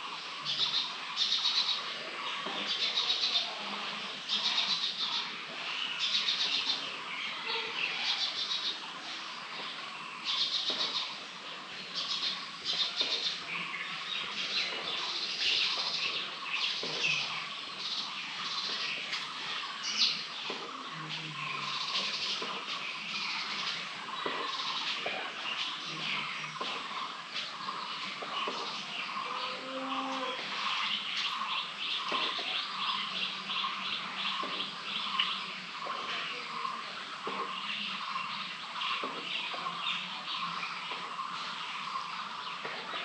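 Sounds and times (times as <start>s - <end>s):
small birds chirping chorus: 0.0s - 43.0s.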